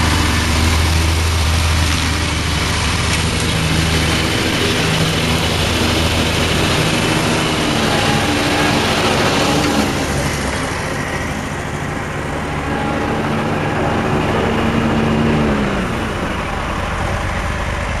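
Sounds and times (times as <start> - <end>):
mower engine running: 0.0 - 18.0.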